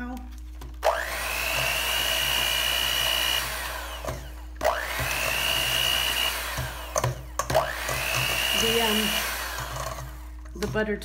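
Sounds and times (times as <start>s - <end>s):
electric hand mixer whining: 0.8s - 10.8s.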